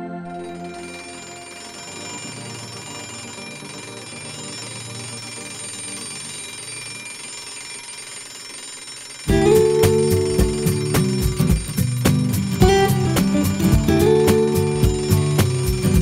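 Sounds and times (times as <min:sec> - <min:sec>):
high electronic tones: 0:00.0 - 0:08.3, 0:09.2 - 0:16.0.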